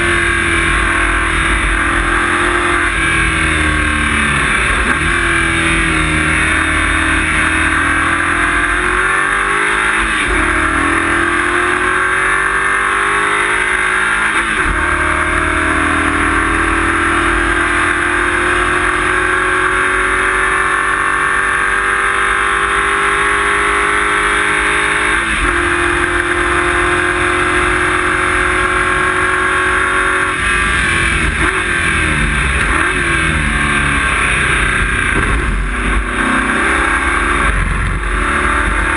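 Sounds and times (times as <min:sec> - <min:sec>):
race car engine revving: 0:00.0 - 0:38.9
road and wind noise: 0:00.0 - 0:38.9.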